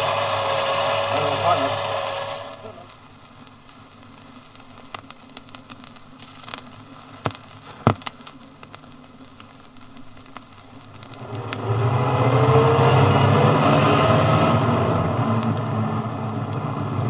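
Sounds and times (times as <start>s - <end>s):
vinyl surface hiss: 0.0s - 17.0s
vinyl clicks and crackles: 0.8s - 12.4s, 14.5s - 17.0s.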